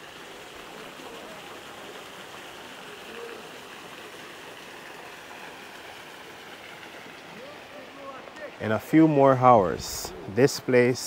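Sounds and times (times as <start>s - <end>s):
fast-flowing river rushing: 0.0s - 11.0s.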